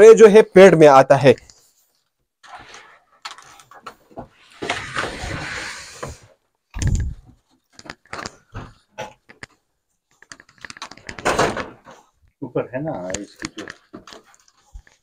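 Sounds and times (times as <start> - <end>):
plastic rustling and scraping: 1.6 - 12.2, 13.0 - 15.0.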